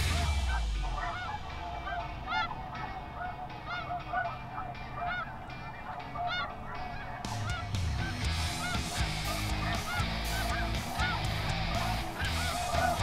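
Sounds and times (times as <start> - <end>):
geese honking chorus: 0.0 - 13.0.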